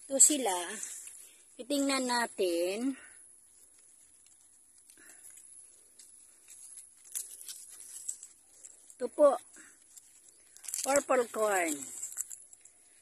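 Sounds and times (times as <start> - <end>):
small crackles: 0.0 - 2.0, 2.9 - 13.0
corn leaves rustling: 0.1 - 13.0.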